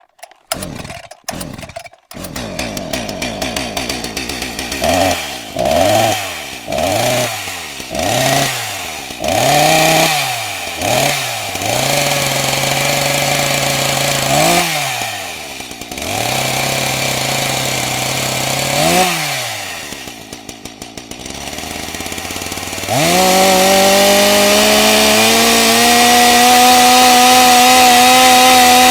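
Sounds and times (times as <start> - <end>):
chainsaw engine revving: 0.1 - 28.9.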